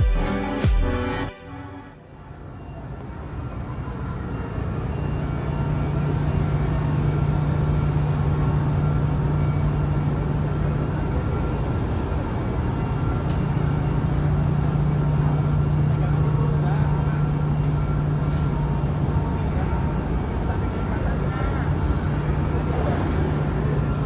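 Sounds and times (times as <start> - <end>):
ship diesel engine drone: 0.2 - 24.0.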